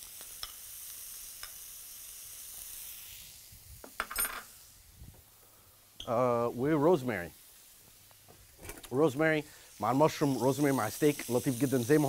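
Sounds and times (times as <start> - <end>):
butter sizzling in hot pan: 0.0 - 12.0.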